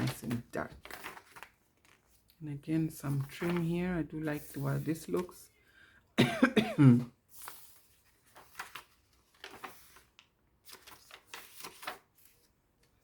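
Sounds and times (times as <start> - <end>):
paper pages rustling: 0.0 - 5.4, 7.2 - 13.0.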